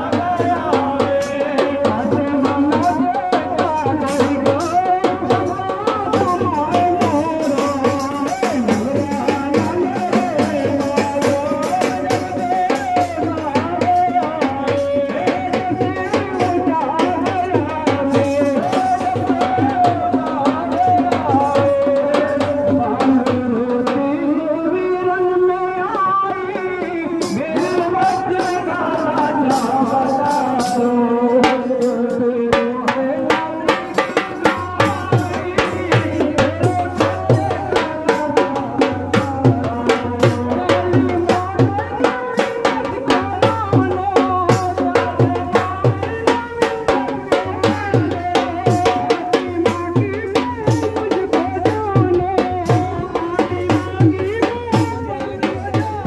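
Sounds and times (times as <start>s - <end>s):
drums beating steadily: 0.0s - 56.0s
men singing over loudspeaker: 0.0s - 56.0s.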